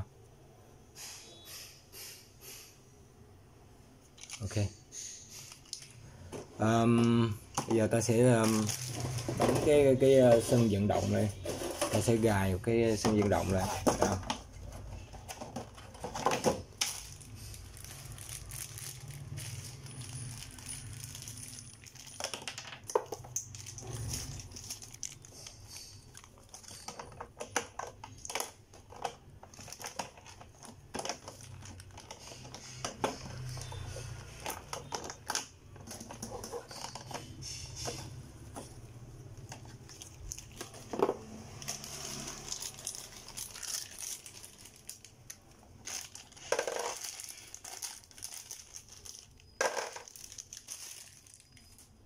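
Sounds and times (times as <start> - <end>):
plastic crinkling: 4.1 - 4.7, 5.5 - 52.0
plastic parts clicking and knocking: 4.1 - 51.7.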